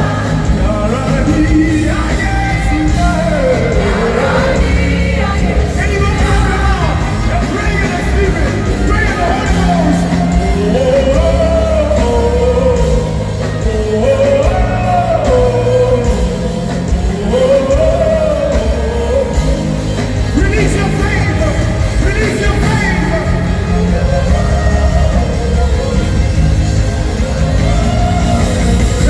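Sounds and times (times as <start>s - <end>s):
band with steady bass: 0.0s - 29.0s.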